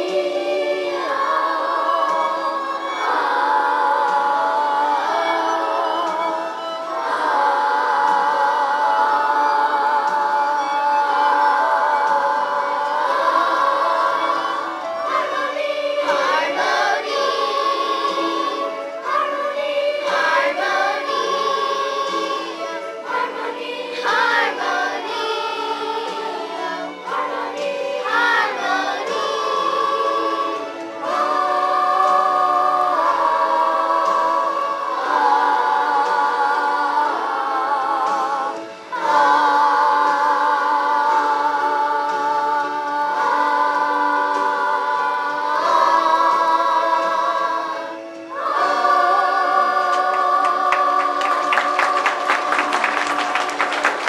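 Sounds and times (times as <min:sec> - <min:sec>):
children's chorus singing: 0:00.0 - 0:54.0.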